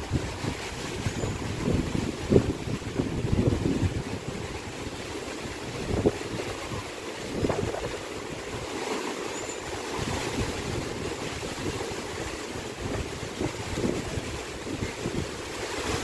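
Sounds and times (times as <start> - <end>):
wind buffeting microphone: 0.0 - 8.9, 9.6 - 16.0
rough sea surf: 0.0 - 16.0.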